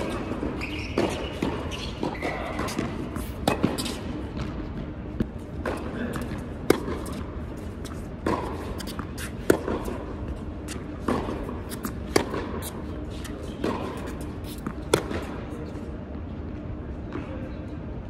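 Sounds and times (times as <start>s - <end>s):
tennis balls hit by racquets: 0.0s - 17.3s.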